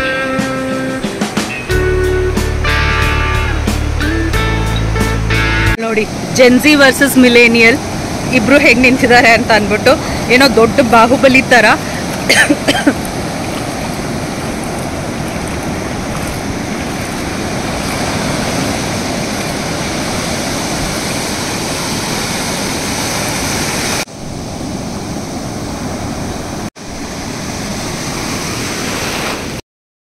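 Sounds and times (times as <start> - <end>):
ocean surf breaking: 0.0 - 4.7, 5.4 - 29.6.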